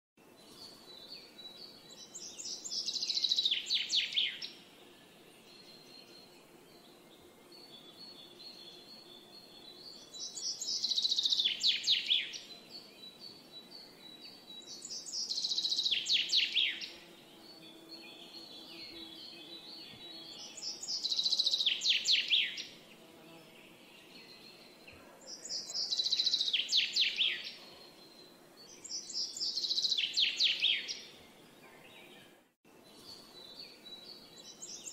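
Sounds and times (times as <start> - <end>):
faint chirps of other birds: 0.2 - 34.9.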